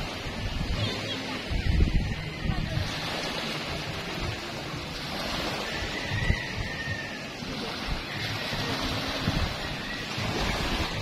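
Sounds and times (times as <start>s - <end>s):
waves washing up shore: 0.0s - 11.0s
wind rumble on microphone: 0.0s - 11.0s.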